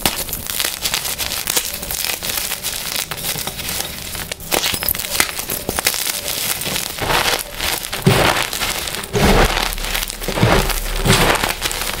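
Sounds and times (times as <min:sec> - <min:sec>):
chalk crunching in hands: 0:00.0 - 0:12.0.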